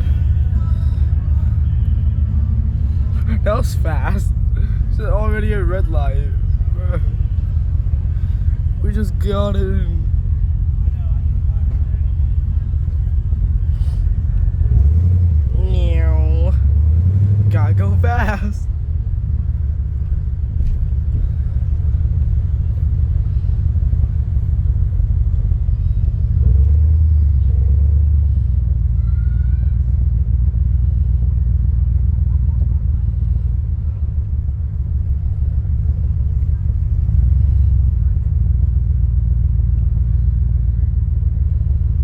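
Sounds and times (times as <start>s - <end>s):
car engine rumble: 0.0s - 42.0s.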